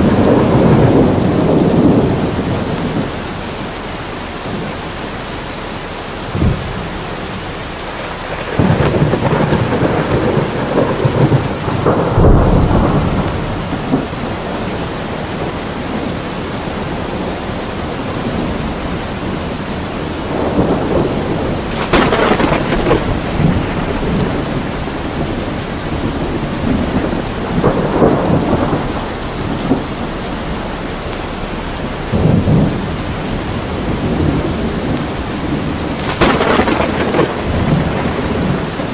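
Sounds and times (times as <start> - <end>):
sharp thunder crack: 0.0 - 3.1, 8.0 - 16.2, 18.2 - 38.9
heavy rain falling: 0.0 - 38.9
thunder rumbling: 0.0 - 38.9.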